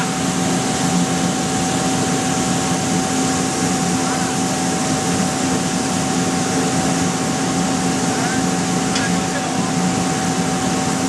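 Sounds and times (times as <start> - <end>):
machine drone with thin whine: 0.0 - 11.0.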